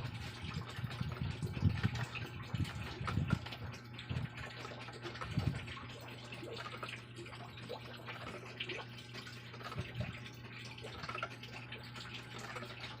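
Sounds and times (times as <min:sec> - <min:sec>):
liquid bubbling in a pot: 0:00.0 - 0:13.0
steady low hum: 0:00.0 - 0:13.0.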